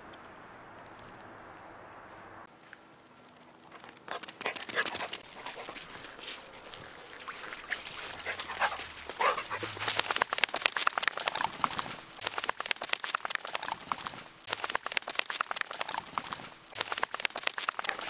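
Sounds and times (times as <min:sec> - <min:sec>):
footsteps on gravel and asphalt: 0:00.9 - 0:18.0.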